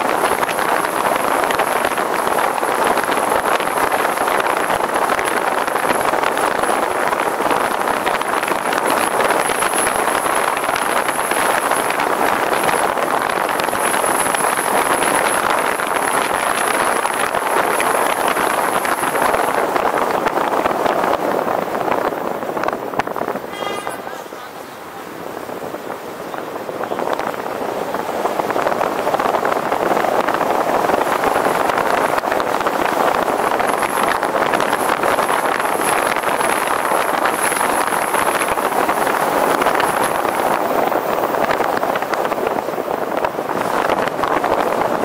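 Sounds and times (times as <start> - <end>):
vehicle road and wind noise: 0.0 - 45.0.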